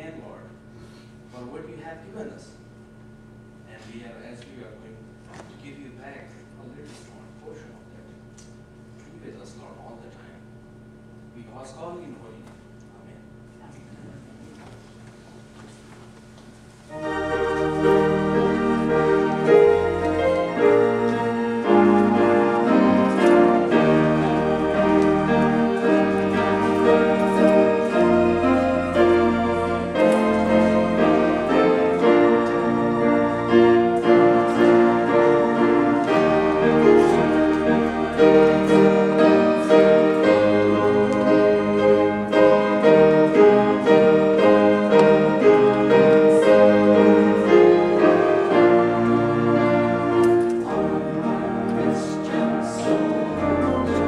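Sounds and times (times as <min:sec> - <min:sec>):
piano and organ playing: 0:00.0 - 0:10.4, 0:16.8 - 0:54.0.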